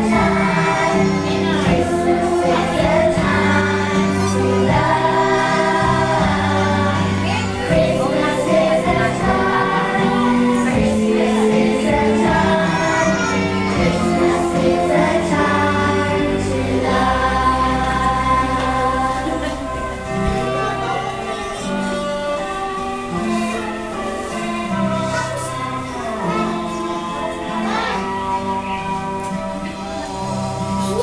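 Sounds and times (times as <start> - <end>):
children's choir singing: 0.0 - 31.0
instrumental accompaniment: 0.0 - 31.0.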